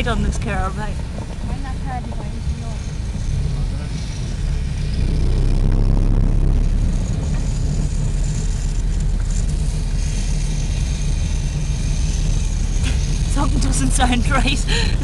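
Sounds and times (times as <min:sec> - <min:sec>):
car driving on snowy road: 0:00.0 - 0:15.0.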